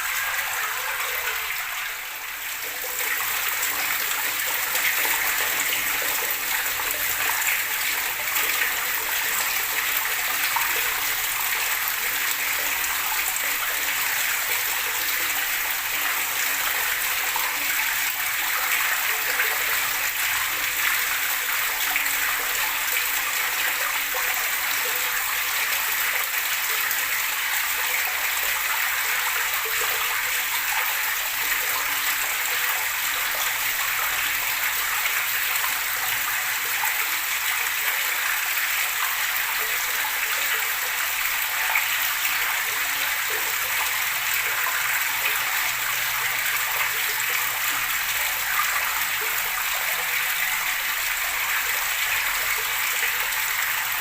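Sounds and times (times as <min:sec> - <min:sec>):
running water gurgling: 0:00.0 - 0:54.0.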